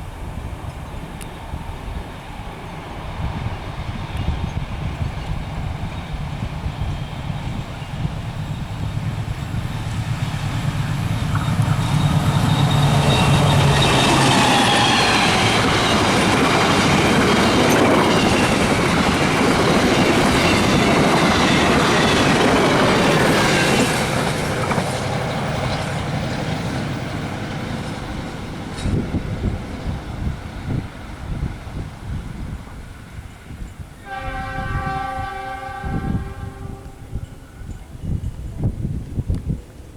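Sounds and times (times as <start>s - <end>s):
diesel locomotive engine hum: 0.0s - 39.9s
wheels squealing on rails: 0.7s - 39.1s
train carriages rolling: 4.3s - 39.3s.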